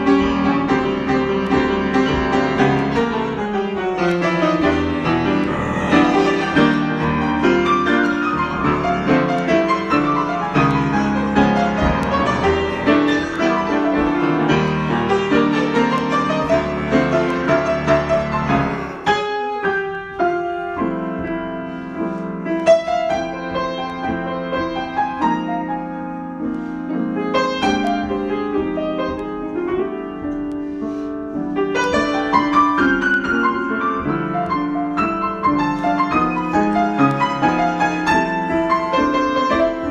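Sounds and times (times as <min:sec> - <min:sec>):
improvised piano playing: 0:00.0 - 0:39.9.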